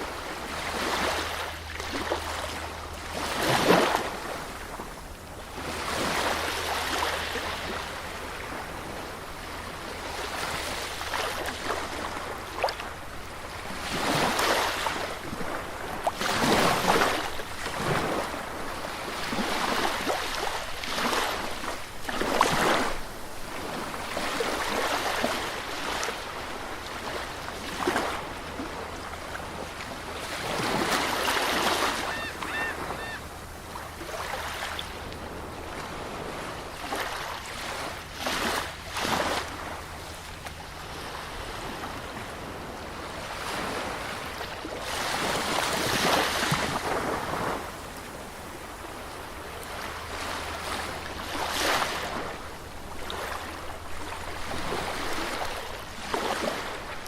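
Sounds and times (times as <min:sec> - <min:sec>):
sea surf breaking on beach: 0:00.0 - 0:40.1, 0:40.9 - 0:57.0.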